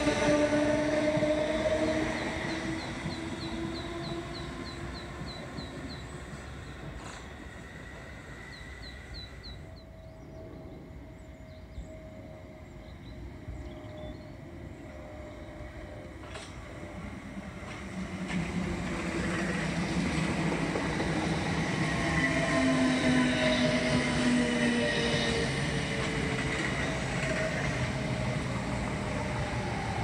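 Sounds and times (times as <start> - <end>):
electric train motor whine: 0.0 - 30.0
faint hum of approaching train: 0.0 - 30.0.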